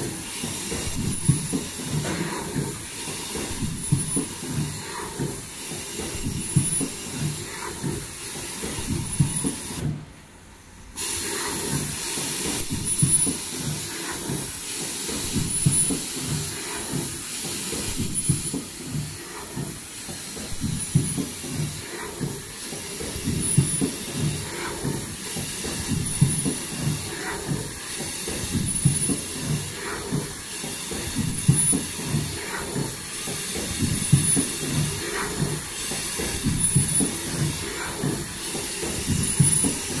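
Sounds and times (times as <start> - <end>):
rhythmic machine clatter with hiss: 0.0 - 40.0.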